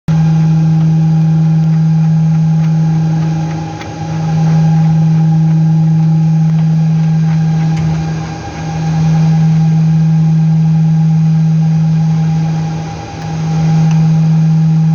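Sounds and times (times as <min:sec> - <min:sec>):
low-pitched machine hum: 0:00.0 - 0:14.9.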